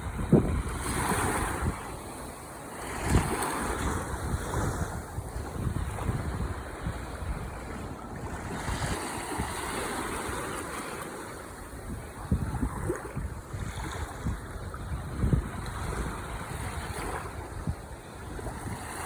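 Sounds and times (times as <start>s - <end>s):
ocean waves washing on shore: 0.0s - 19.0s
wind buffeting microphone: 0.0s - 19.0s.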